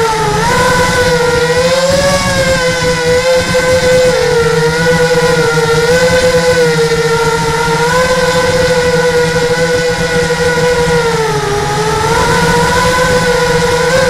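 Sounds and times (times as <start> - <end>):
model aircraft propellers whining: 0.0 - 14.0.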